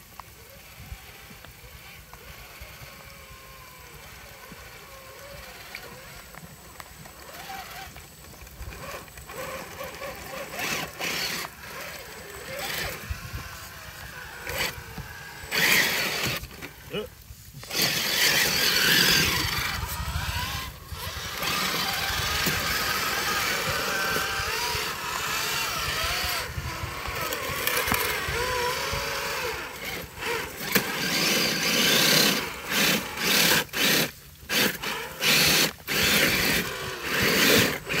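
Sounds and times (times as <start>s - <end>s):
electric motor whining: 0.0s - 38.0s.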